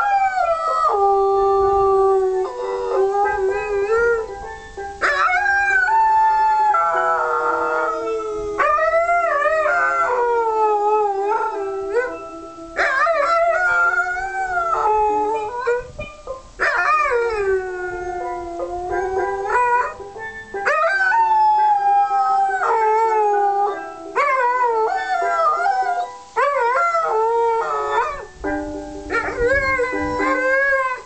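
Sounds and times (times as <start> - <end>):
dog howling: 0.0 - 4.3, 5.0 - 12.2, 12.8 - 15.9, 16.6 - 20.0, 20.6 - 28.3, 29.1 - 31.0
steel pan notes: 0.0 - 31.0.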